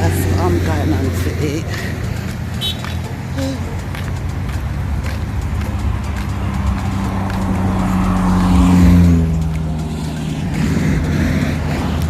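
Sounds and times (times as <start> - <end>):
vehicle driving past: 0.0 - 12.0.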